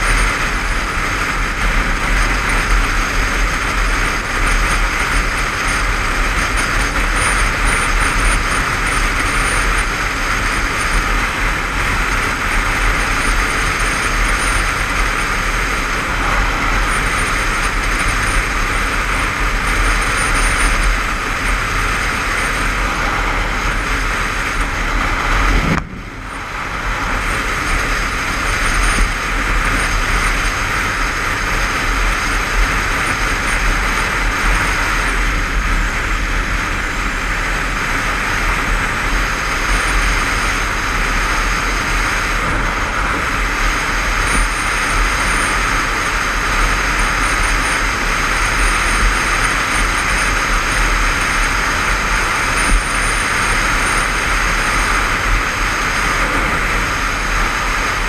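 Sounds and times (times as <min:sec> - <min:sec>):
motorcycle engine: 0:00.0 - 0:58.0
wind rush on helmet camera: 0:00.0 - 0:58.0.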